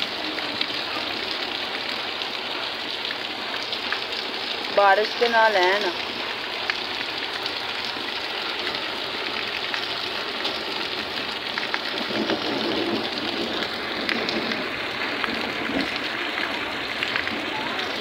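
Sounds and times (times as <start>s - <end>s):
heavy rain splashing into water: 0.0s - 18.0s.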